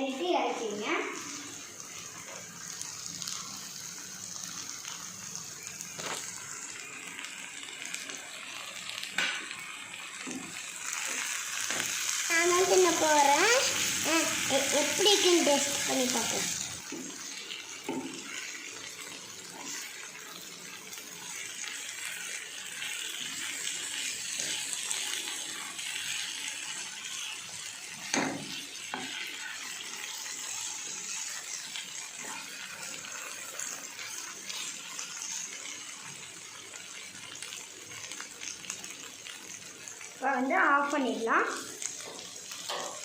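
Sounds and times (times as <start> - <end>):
steady hiss of water or flame: 0.0 - 43.0.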